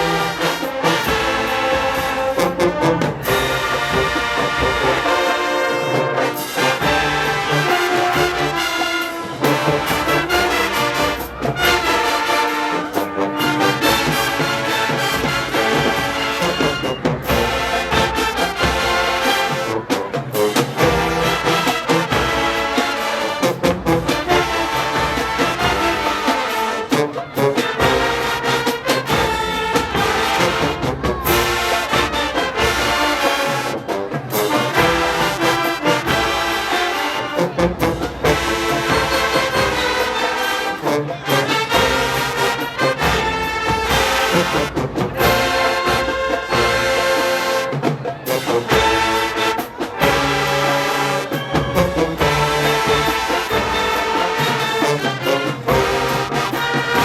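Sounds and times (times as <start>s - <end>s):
marching band playing: 0.0s - 57.0s.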